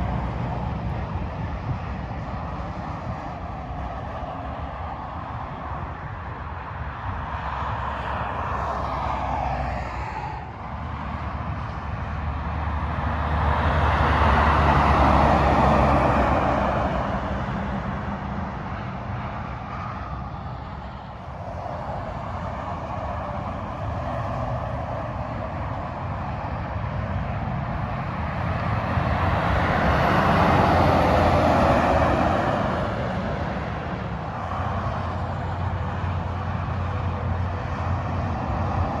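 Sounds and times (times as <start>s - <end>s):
freeway traffic passing: 0.0s - 39.0s.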